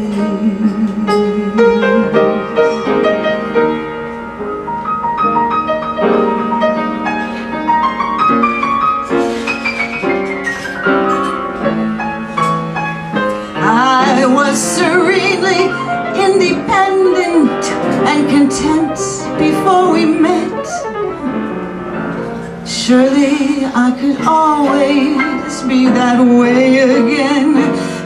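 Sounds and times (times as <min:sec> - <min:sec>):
piano playing: 0:00.0 - 0:28.0.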